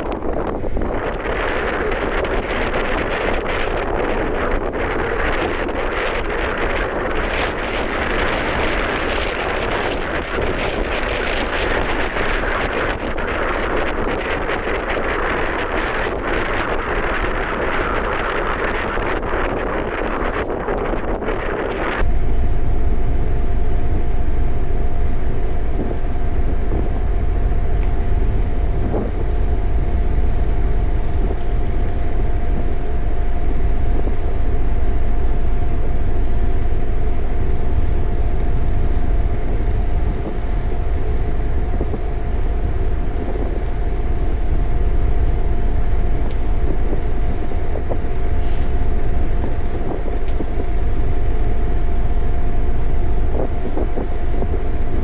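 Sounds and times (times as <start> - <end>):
engine running with low rumble: 0.0 - 55.0.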